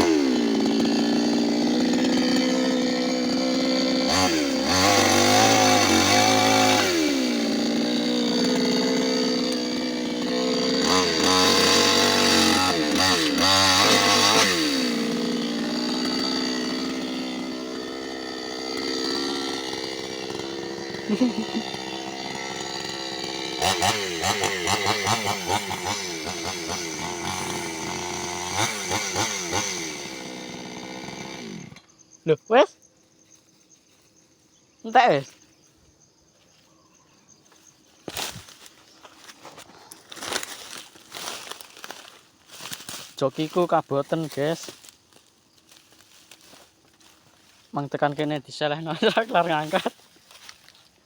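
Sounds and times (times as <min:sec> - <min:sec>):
chainsaw revving: 0:00.0 - 0:32.1, 0:38.1 - 0:50.8.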